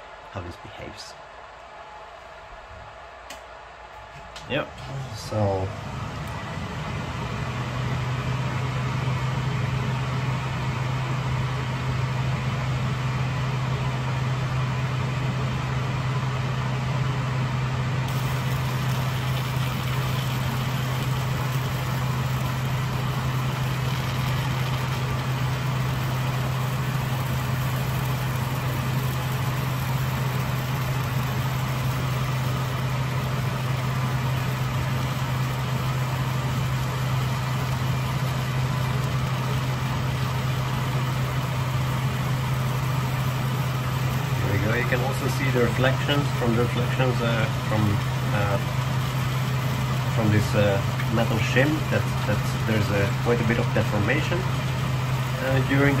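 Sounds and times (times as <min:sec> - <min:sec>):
extractor fan running: 0:00.0 - 0:56.0.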